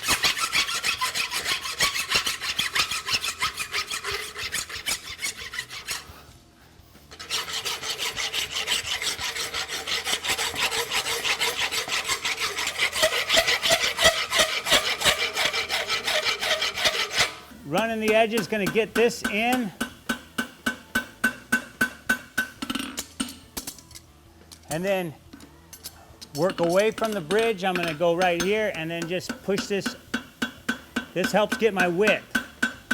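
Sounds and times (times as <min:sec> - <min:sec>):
rasp filing steel horseshoe: 0:00.0 - 0:06.4, 0:07.0 - 0:23.9, 0:25.8 - 0:32.9.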